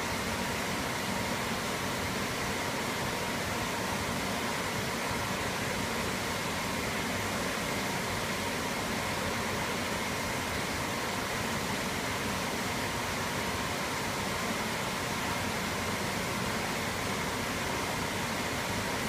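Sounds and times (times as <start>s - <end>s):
faint constant hum: 0.0s - 19.0s
steady water flow hiss: 0.0s - 19.0s.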